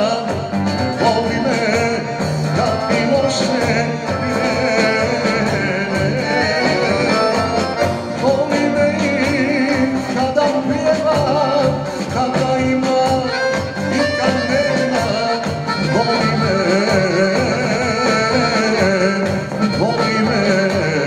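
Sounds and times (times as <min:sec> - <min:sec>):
accordion: 0:00.0 - 0:21.0
drum kit beat: 0:00.0 - 0:21.0
man singing into a microphone: 0:00.0 - 0:21.0.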